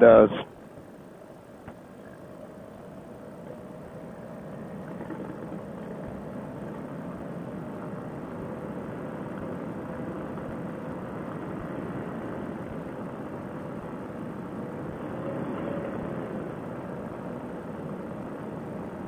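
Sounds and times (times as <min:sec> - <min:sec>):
faint engine hum: 0:00.0 - 0:19.0
wheels rolling over grass: 0:01.7 - 0:19.0.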